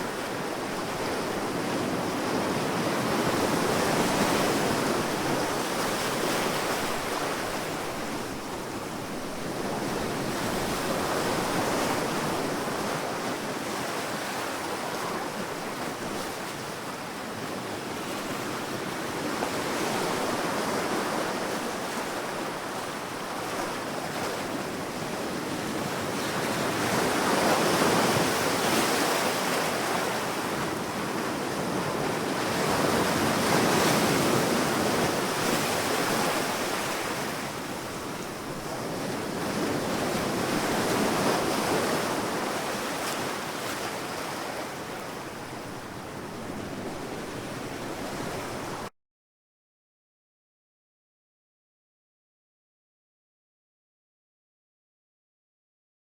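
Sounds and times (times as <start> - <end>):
surf washing on sandy beach: 0.0 - 48.9.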